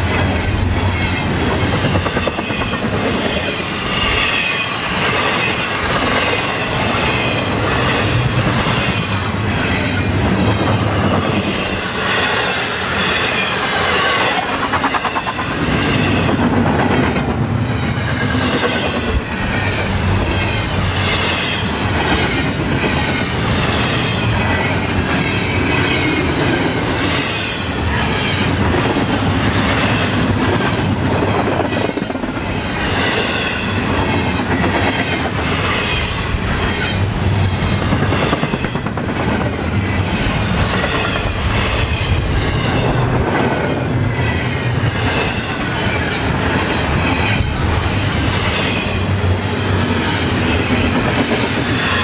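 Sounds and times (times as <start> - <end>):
clickety-clack over rail joints: 0.0 - 52.0
train wheels rumbling on rail: 0.0 - 52.0.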